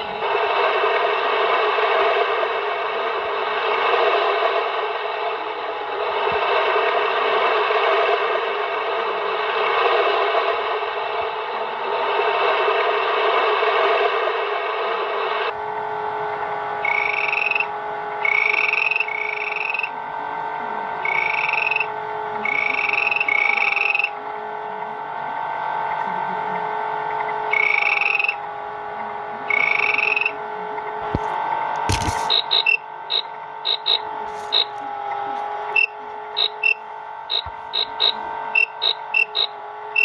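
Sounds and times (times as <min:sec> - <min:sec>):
electronic buzzing drone: 0:00.0 - 0:14.4, 0:15.4 - 0:40.0.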